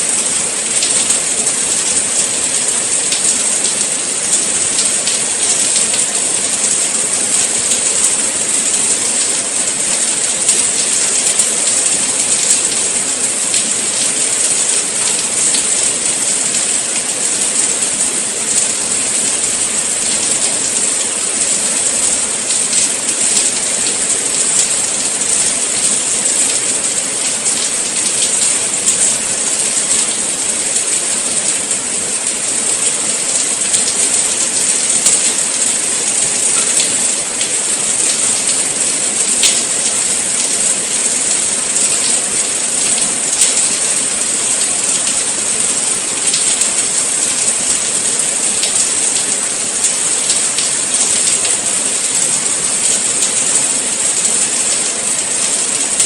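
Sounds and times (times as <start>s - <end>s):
sharp water drips: 0.0s - 56.0s
steady rain falling: 0.0s - 56.0s.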